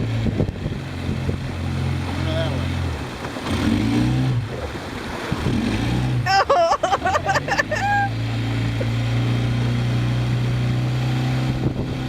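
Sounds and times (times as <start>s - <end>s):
small boat engine humming: 0.0s - 12.0s.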